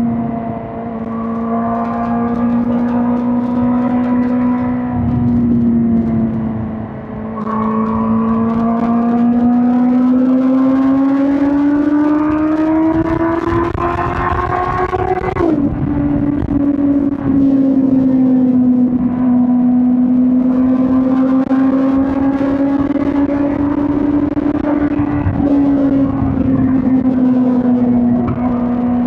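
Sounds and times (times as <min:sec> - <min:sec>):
motorcycle engine running: 0:00.9 - 0:29.0.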